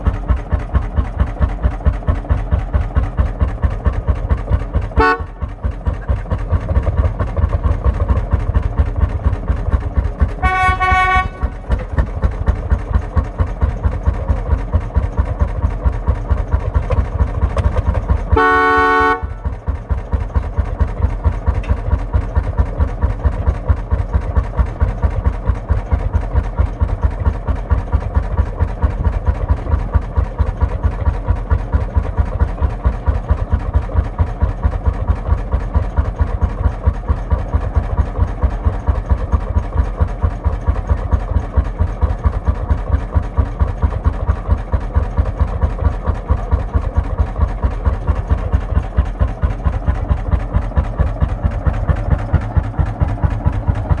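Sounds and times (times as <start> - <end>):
engine idling with chugging beat: 0.0 - 54.0.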